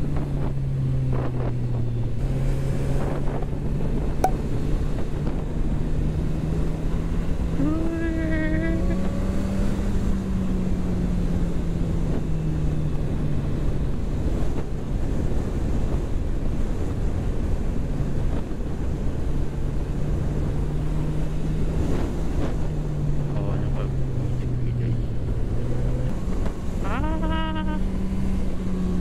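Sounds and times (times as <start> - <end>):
wind noise on microphone: 0.0 - 23.4
motorcycle engine cruising hum: 0.0 - 29.0.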